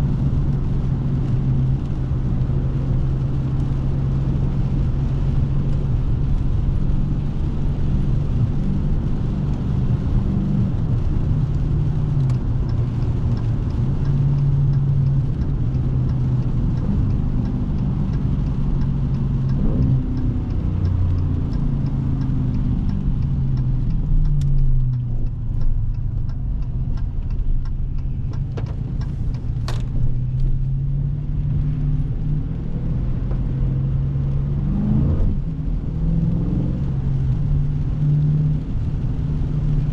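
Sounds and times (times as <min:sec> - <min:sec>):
car engine: 0:00.0 - 0:39.9
light regular ticking: 0:00.1 - 0:39.9.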